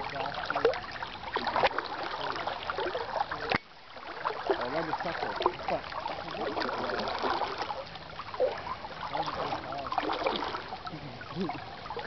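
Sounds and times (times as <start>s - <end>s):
water sloshing as person wades: 0.0s - 12.0s.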